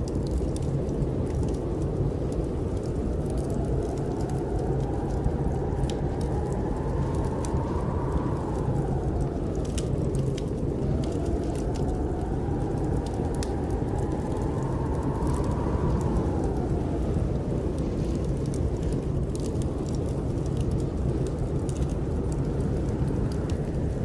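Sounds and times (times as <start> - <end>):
howling wind: 0.0 - 24.0
wood fire crackling: 0.0 - 24.0.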